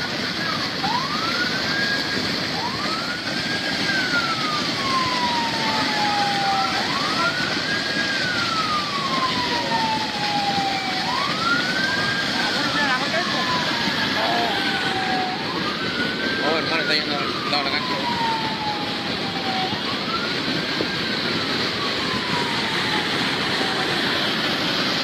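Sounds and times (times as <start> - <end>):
loud steady rushing noise: 0.0 - 25.0
siren wailing: 0.0 - 25.0.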